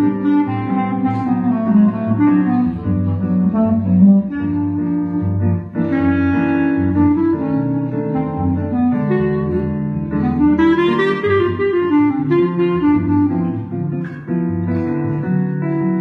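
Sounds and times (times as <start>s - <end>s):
wind instrument melody: 0.0s - 16.0s.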